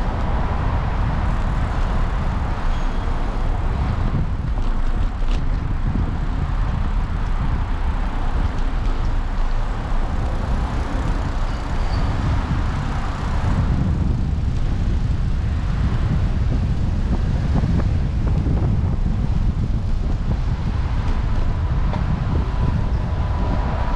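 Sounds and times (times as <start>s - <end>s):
city traffic: 0.0s - 23.9s
wind rumbling on microphone: 0.0s - 23.9s.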